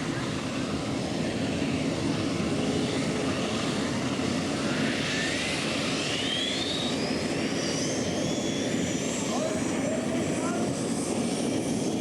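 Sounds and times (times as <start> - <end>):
high turbine whine: 0.0 - 12.0.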